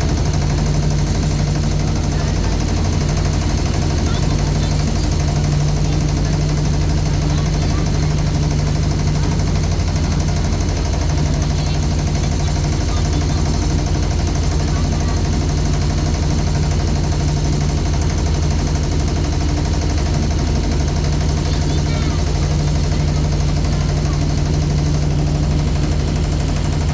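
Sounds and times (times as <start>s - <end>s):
boat engine running: 0.0s - 26.9s.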